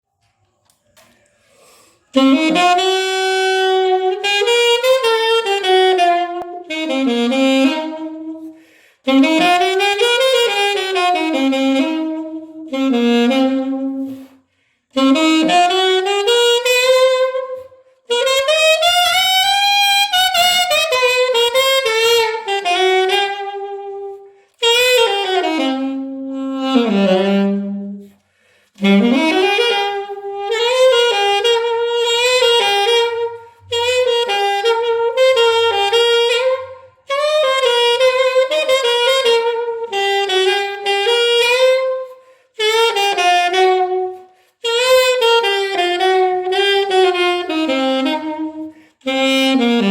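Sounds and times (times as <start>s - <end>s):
alto saxophone playing blues: 0.6s - 49.9s.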